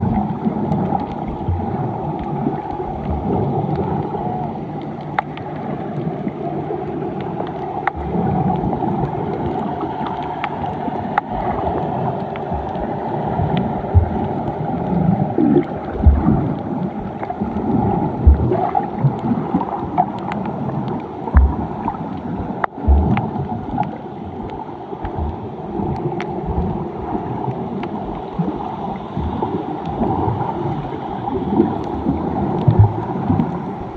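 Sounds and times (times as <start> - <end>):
muffled water sloshing: 0.0 - 33.9.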